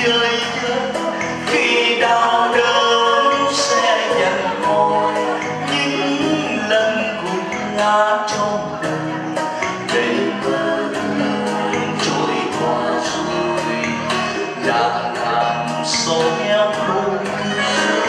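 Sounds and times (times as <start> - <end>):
hymn singing with band: 0.0 - 18.0.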